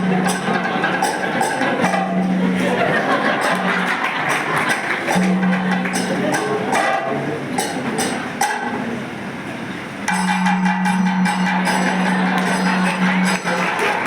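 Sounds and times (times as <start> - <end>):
drumming: 0.0 - 9.0, 10.0 - 14.0
metallic percussion strokes: 0.0 - 14.0.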